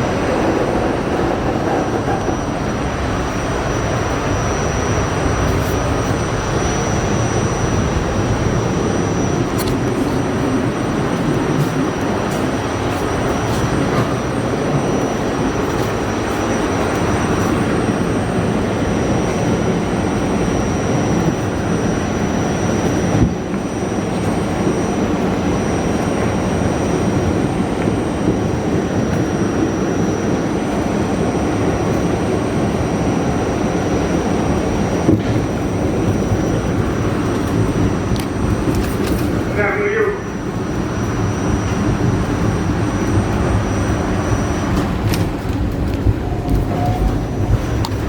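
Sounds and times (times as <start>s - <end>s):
faint high steady tones: 0.0s - 48.0s
subway wheels rumbling on rails: 0.0s - 48.0s.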